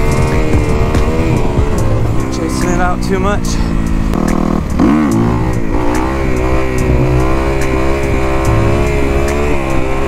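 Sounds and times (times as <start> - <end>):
motorcycle engine revving high: 0.0 - 10.0.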